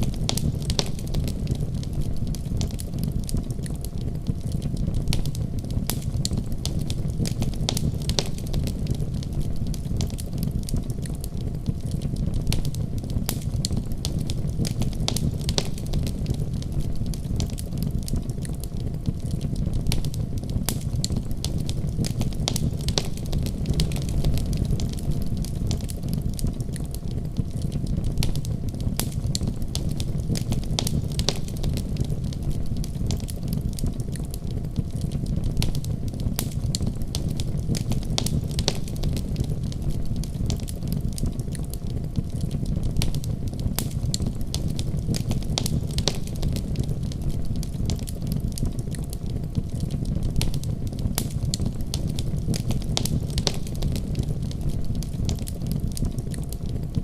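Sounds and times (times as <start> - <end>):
fire snaps and pops: 0.0 - 57.0
rumble of flames: 0.0 - 57.0.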